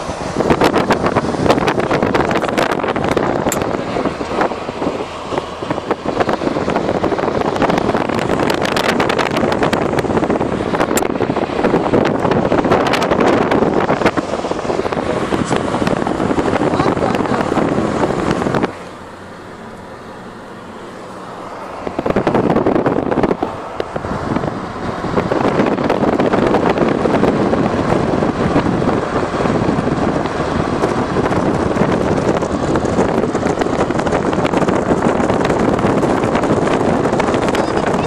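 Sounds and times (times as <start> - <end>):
vehicle running noise: 0.0 - 38.0
wind rushing past vehicle: 0.0 - 38.0.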